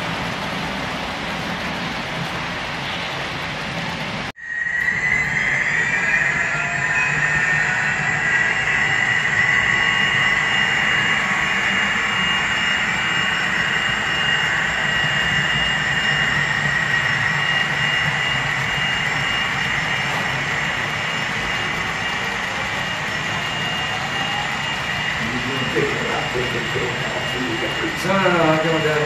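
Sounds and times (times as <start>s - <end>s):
model train rolling and motor whine: 4.0s - 29.0s.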